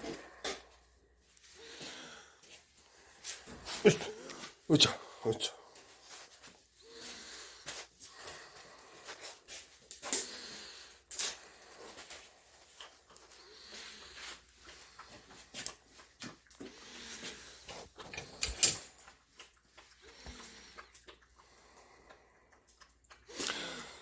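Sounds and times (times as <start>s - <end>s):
dog breathing and sniffing: 1.5s - 23.8s.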